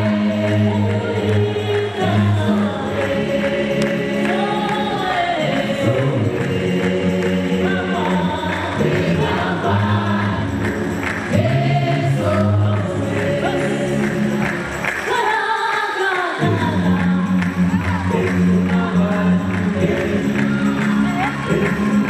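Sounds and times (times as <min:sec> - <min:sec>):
gospel choir singing: 0:00.0 - 0:22.0.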